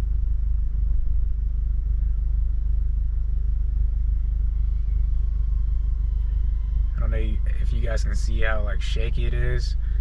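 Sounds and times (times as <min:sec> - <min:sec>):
low rumble inside car: 0:00.0 - 0:10.0.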